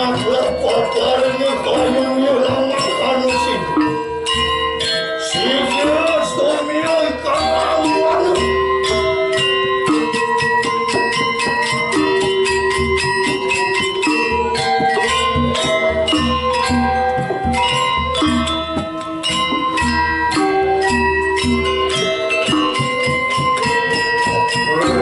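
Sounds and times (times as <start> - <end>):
gamelan playing fast: 0.0 - 25.0.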